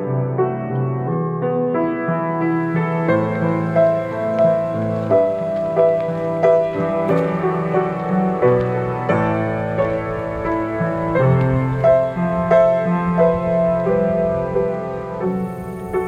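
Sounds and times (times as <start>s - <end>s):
slow piano piece: 0.0s - 16.0s.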